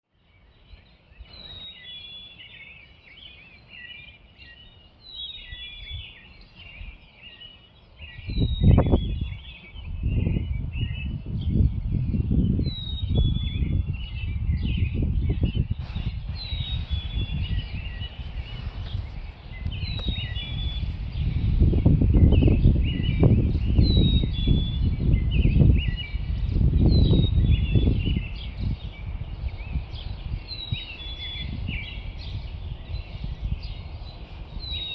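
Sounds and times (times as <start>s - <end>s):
robin singing: 0.1s - 34.9s.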